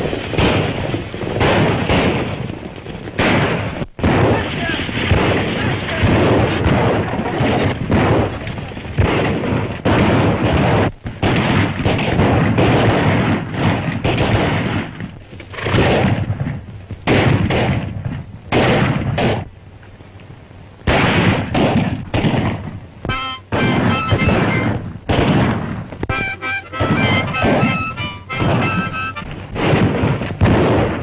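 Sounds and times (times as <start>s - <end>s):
gunshots: 0.0s - 19.5s, 20.9s - 31.0s
dense noisy din: 0.0s - 31.0s.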